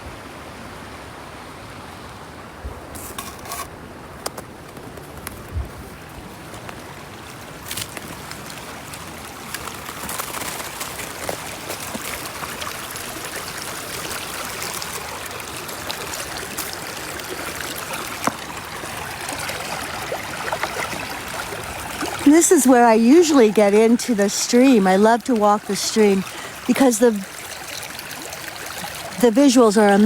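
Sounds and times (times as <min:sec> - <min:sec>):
stream water rushing: 0:05.8 - 0:30.0.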